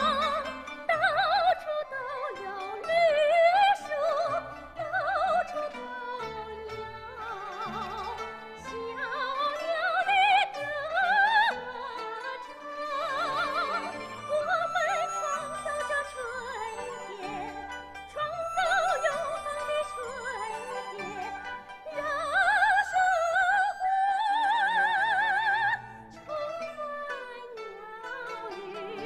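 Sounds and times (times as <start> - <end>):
traditional orchestra: 0.0 - 24.0
woman singing operatically: 0.0 - 29.0.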